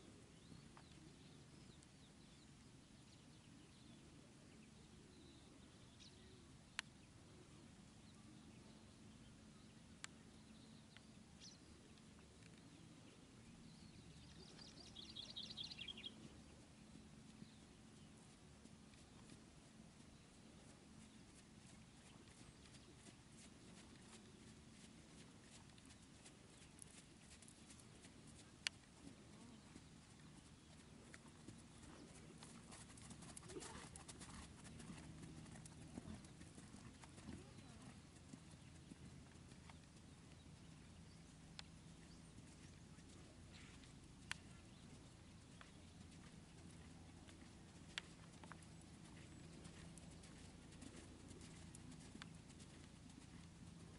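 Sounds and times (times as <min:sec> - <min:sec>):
faint outdoor background: 0:00.0 - 0:53.9.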